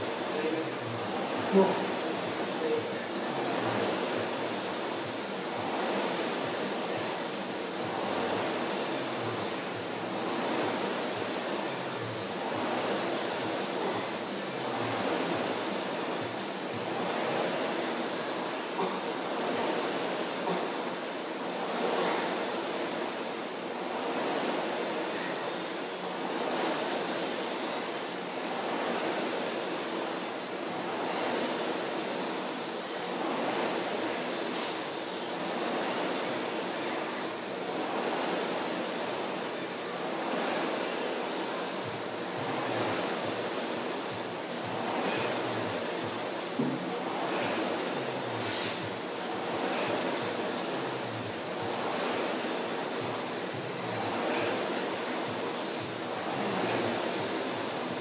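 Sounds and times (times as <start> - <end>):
rowing machine flywheel whooshing: 0.0 - 58.0.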